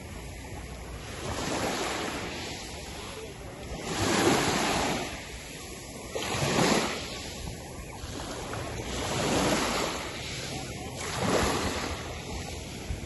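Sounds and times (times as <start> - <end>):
waves washing up a shingle beach: 0.0 - 13.0.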